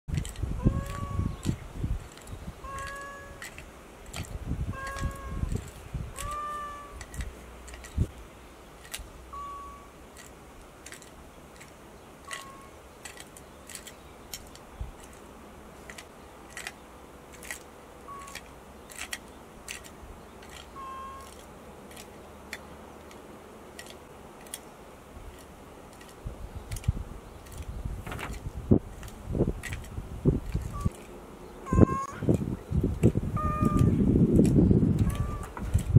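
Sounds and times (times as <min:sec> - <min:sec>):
quiet outdoor ambience: 0:00.1 - 0:35.9.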